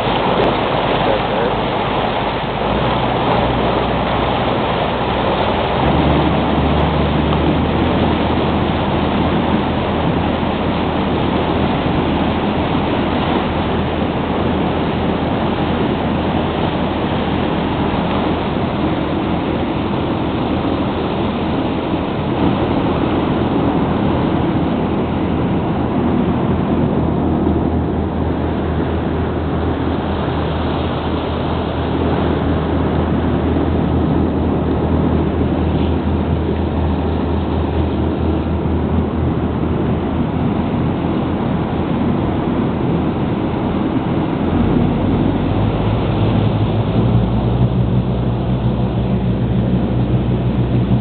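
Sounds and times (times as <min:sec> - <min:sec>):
boat engine droning: 0:00.0 - 0:51.0
water rushing along hull: 0:00.0 - 0:51.0.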